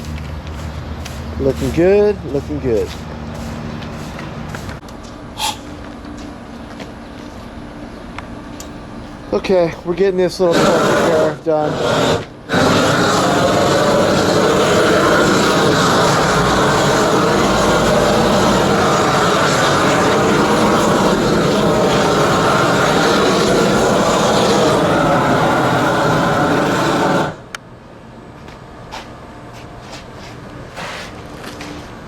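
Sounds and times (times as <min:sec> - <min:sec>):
propane torch roaring: 0:00.0 - 0:29.1.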